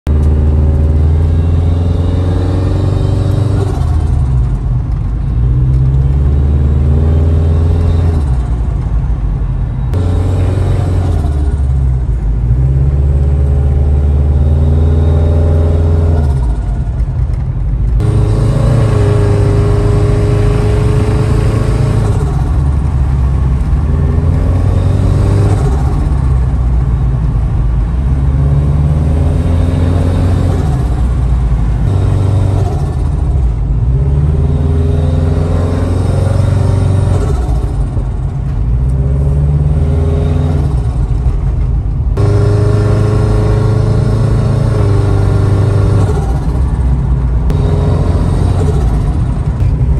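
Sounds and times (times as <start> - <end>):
turbocharged car engine accelerating: 0.1 - 49.9.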